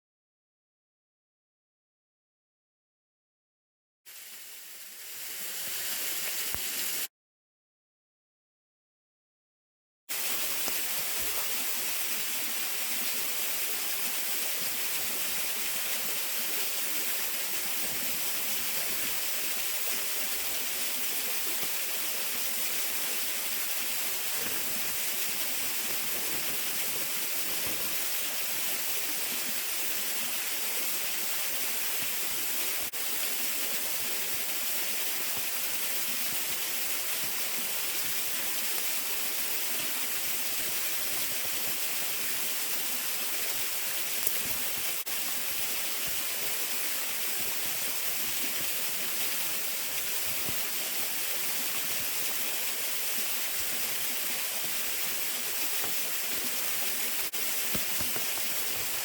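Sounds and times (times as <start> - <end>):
waterfall rushing: 10.2 - 59.0.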